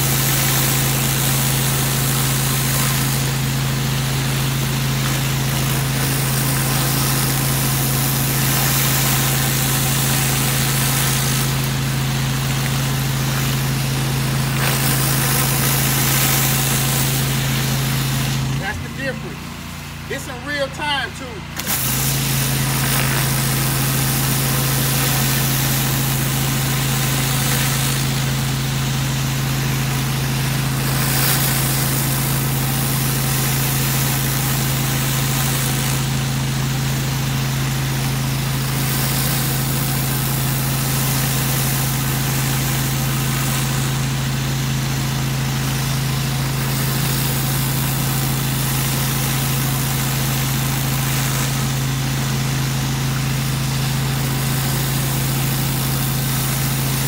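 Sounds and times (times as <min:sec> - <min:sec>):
water spraying hiss: 0:00.0 - 0:18.7, 0:21.6 - 0:57.0
pressure washer engine running: 0:00.0 - 0:57.0.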